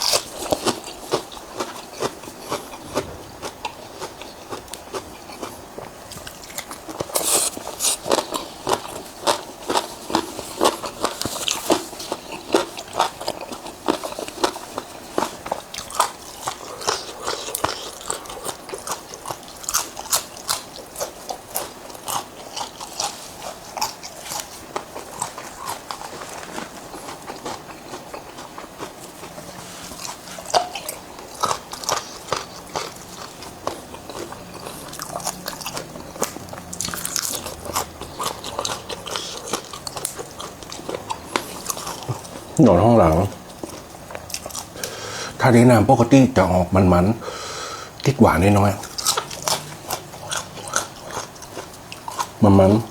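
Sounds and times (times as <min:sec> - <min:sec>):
person crunching and chewing: 0:00.0 - 0:46.5, 0:47.2 - 0:52.9.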